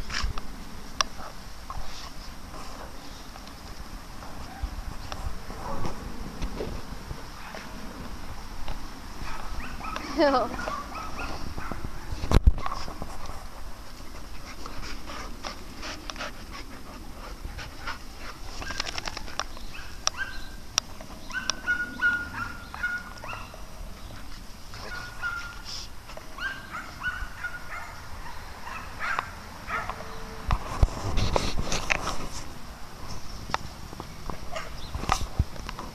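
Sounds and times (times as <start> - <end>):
dogs scuffling on sand: 0.0 - 32.6.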